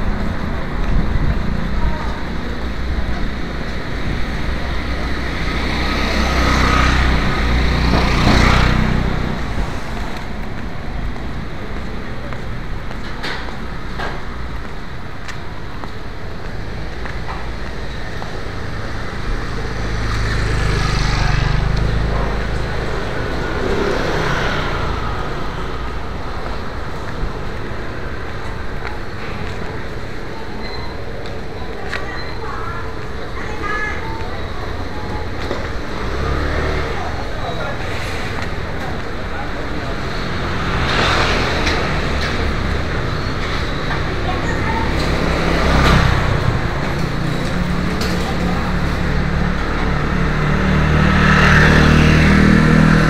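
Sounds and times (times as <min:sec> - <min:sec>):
street traffic rumble: 0:00.0 - 0:53.0.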